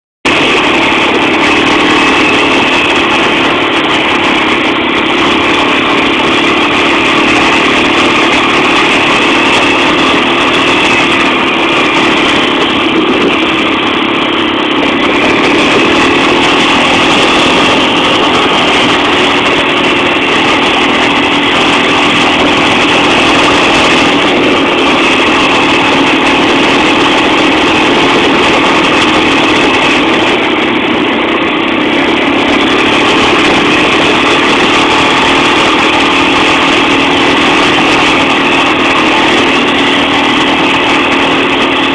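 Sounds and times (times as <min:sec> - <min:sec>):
motorcycle engine running: 0:00.2 - 0:41.9.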